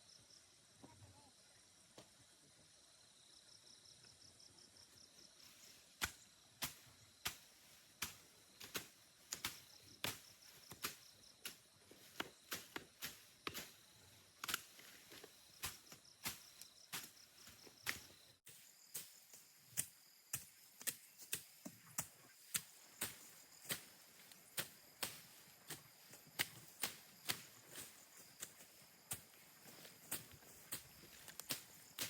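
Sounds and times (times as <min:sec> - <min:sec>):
insects droning: 0:00.0 - 0:32.0
hand tool chopping soil: 0:05.9 - 0:32.0.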